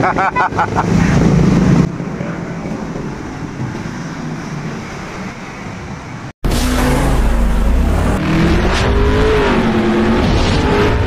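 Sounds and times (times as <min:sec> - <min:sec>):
traffic engines humming: 0:00.0 - 0:11.0.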